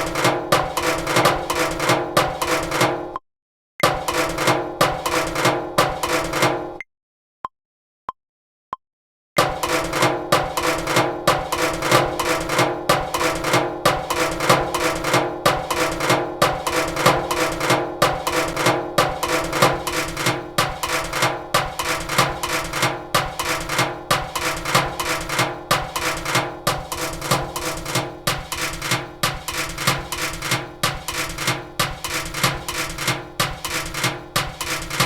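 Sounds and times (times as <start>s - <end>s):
looped percussion knocks and clanks: 0.0s - 3.2s, 3.8s - 6.8s, 9.4s - 35.0s.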